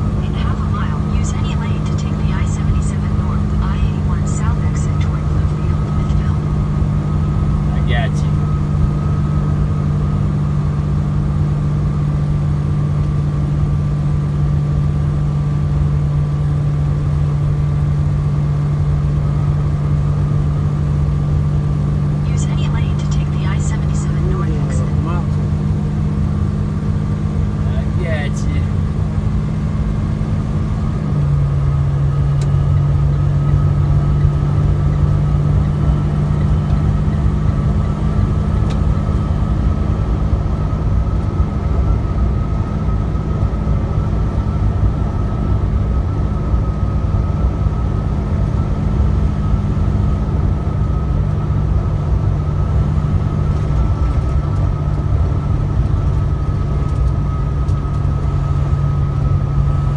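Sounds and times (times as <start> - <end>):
road noise: 0.0 - 59.9
truck engine running: 0.0 - 59.9.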